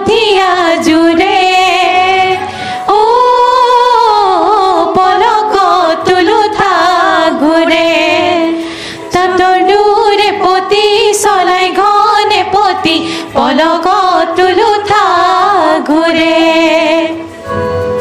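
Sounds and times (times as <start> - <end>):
women singing together: 0.0 - 17.3.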